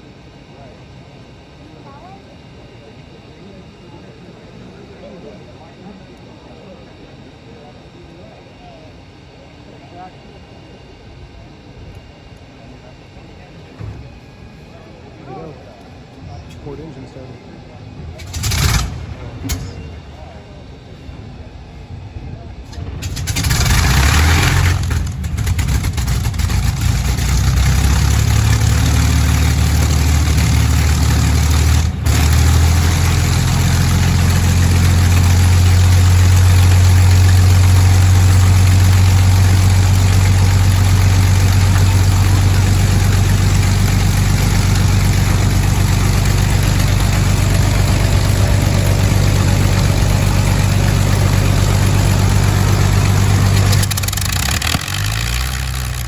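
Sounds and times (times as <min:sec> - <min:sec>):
piston aircraft engines running: 0:00.0 - 0:56.0.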